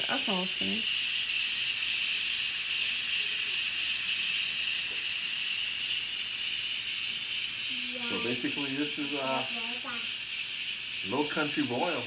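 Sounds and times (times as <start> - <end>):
pressure cooker venting steam: 0.0 - 12.0.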